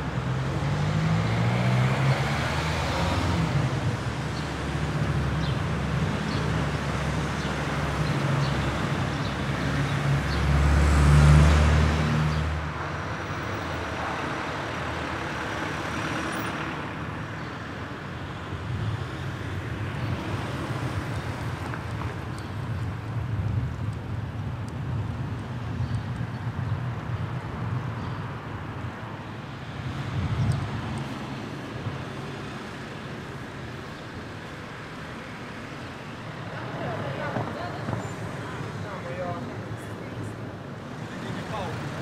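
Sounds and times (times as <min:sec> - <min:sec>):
car engines passing: 0:00.0 - 0:42.0.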